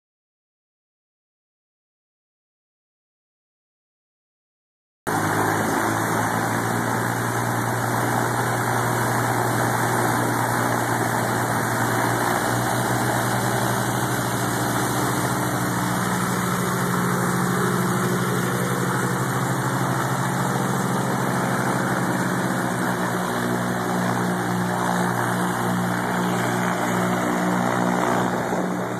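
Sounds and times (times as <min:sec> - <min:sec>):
aircraft piston engines idling: 0:05.1 - 0:28.9.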